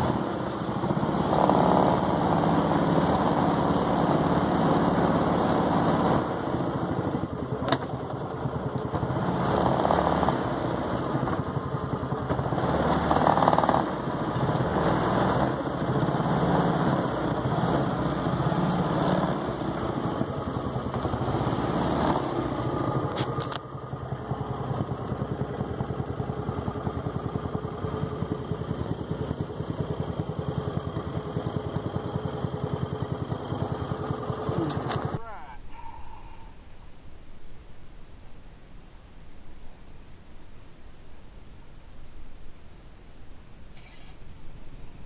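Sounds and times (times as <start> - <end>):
small boat engine running: 0.0 - 36.6.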